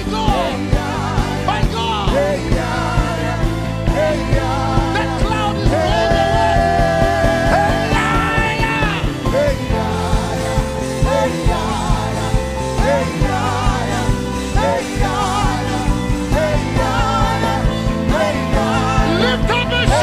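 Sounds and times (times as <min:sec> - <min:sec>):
keyboard chords: 0:00.0 - 0:20.0
person singing: 0:00.0 - 0:20.0
steady beat: 0:00.0 - 0:20.0.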